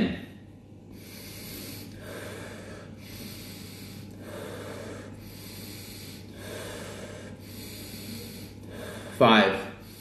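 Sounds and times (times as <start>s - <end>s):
person breathing forcefully: 0.9s - 10.0s.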